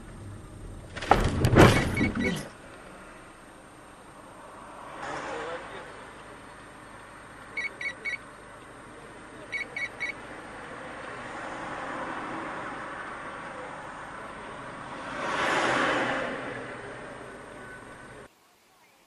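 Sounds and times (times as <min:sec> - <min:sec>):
street traffic: 0:00.0 - 0:19.0
vehicle passing: 0:02.0 - 0:18.3.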